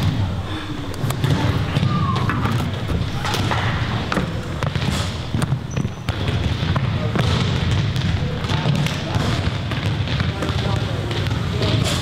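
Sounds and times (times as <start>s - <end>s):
steady background noise: 0.0s - 12.0s
balls bouncing on wooden floor: 1.1s - 12.0s.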